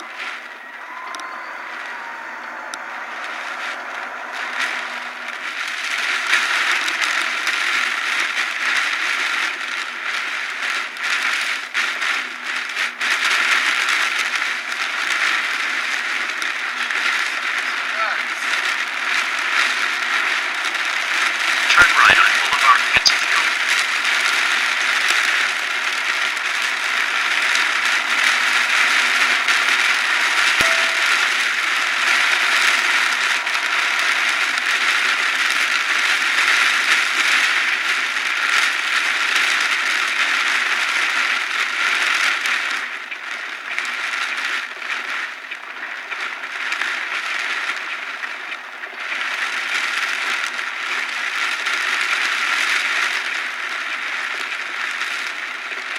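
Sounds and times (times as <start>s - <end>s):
heavy rain on a car: 0.0s - 55.9s.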